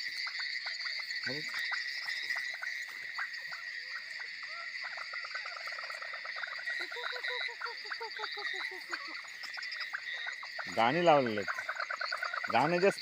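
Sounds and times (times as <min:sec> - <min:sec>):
crickets trilling: 0:00.0 - 0:13.0
frogs calling: 0:00.0 - 0:13.0.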